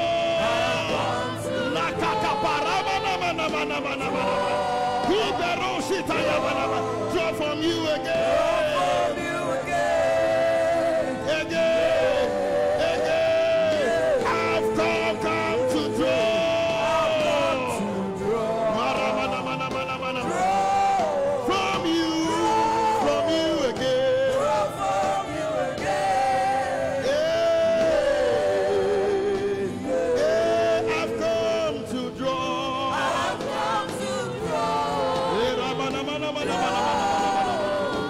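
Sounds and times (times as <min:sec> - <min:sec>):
instrumental backing: 0:00.0 - 0:38.0
voices singing slow melody: 0:00.0 - 0:38.0.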